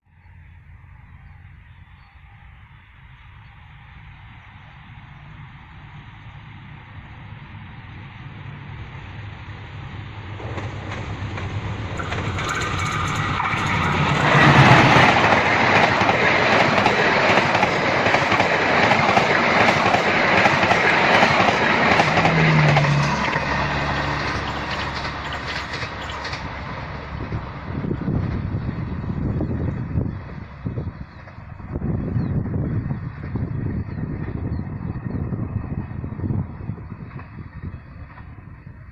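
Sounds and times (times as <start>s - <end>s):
passenger train passing: 0.1s - 38.9s.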